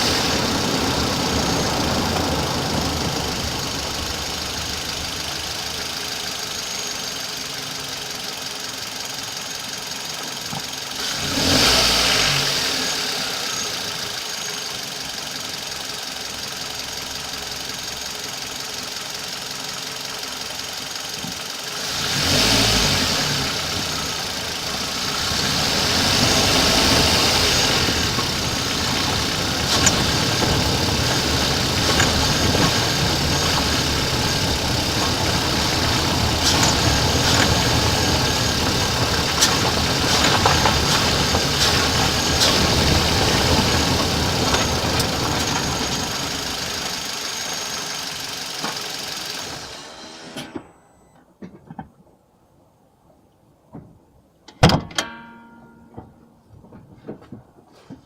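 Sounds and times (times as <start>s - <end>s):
car engine idling and revving: 0.0s - 51.2s.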